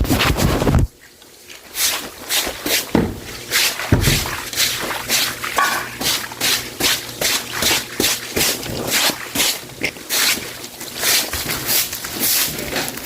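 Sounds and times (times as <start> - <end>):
broom sweeping floor: 1.5 - 13.0.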